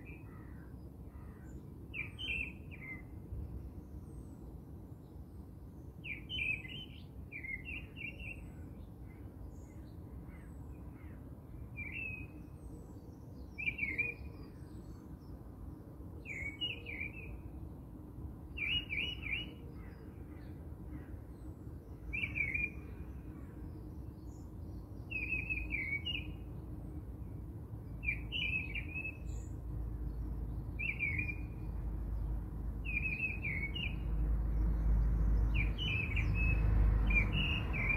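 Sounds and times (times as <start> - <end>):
low background noise: 0.0 - 37.9
songbird chirping: 0.0 - 37.9.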